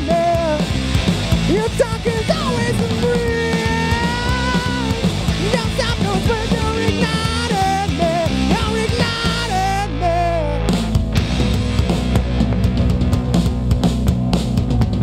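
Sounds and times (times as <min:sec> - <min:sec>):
electric guitar bent notes: 0:00.0 - 0:15.0
rock band playing live: 0:00.0 - 0:15.0.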